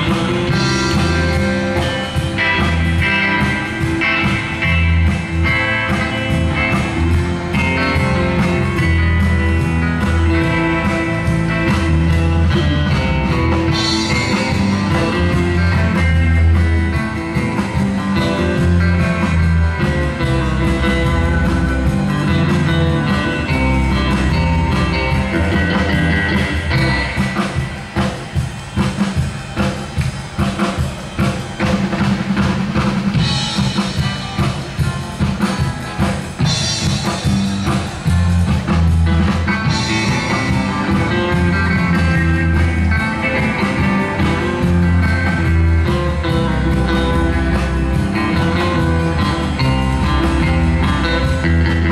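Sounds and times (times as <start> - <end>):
electric bass guitar: 0.0 - 30.6, 31.2 - 51.9
drum kit: 0.0 - 51.9
electric guitar: 0.0 - 51.9.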